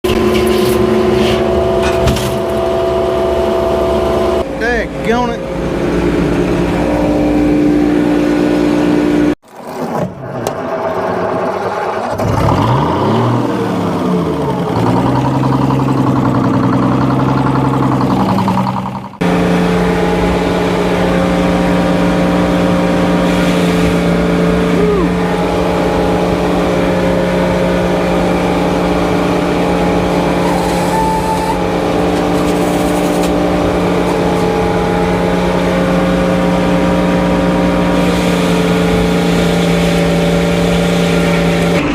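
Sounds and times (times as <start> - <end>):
sawmill engine running: 0.0 - 9.4, 10.5 - 41.9.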